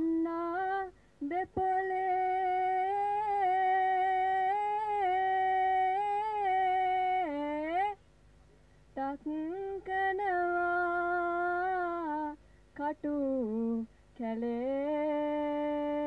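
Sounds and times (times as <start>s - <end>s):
person singing unaccompanied: 0.0s - 8.0s, 8.9s - 16.0s.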